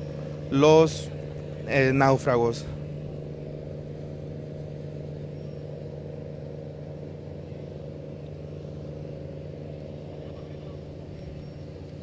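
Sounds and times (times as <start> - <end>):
ship diesel engine humming: 0.0 - 12.0.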